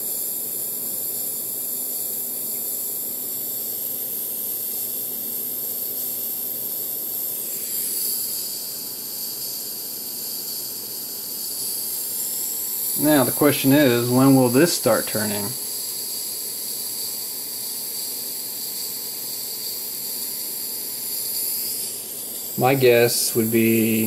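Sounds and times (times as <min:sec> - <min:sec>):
torch flame hissing: 0:00.2 - 0:24.0.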